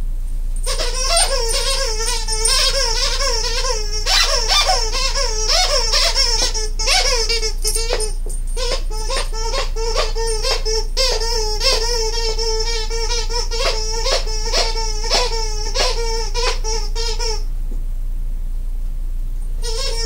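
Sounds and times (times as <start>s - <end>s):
dog toy squeaking: 0.6s - 17.5s, 19.6s - 20.0s.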